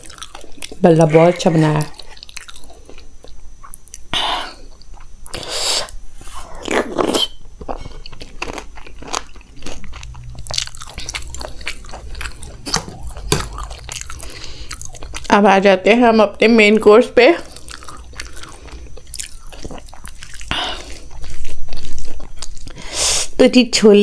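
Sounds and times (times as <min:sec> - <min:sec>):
crunchy chewing: 0:00.0 - 0:15.5, 0:17.4 - 0:23.3.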